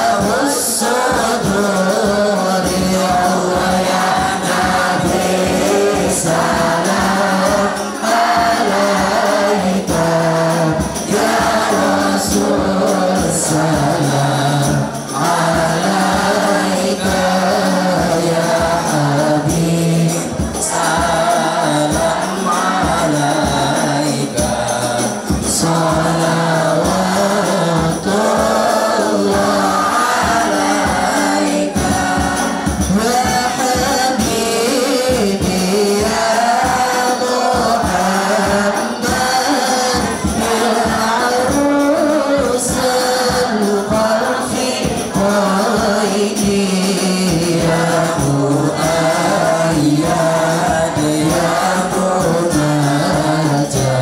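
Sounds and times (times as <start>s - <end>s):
boys singing devotional song: 0.0s - 54.0s
frame drums beating: 0.0s - 54.0s
lead voice on microphone: 0.0s - 54.0s.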